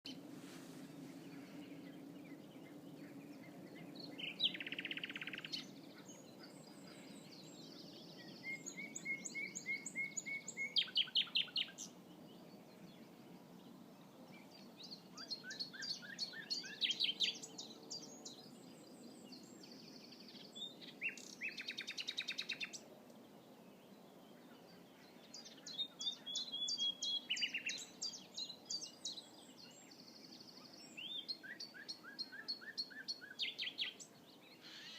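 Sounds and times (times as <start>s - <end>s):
nightingale singing: 1.4s - 12.0s, 14.3s - 22.8s, 24.7s - 34.9s.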